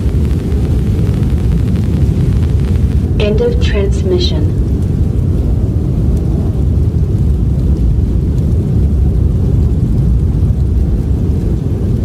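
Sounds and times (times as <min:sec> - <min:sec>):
strong blizzard wind: 0:00.0 - 0:12.0.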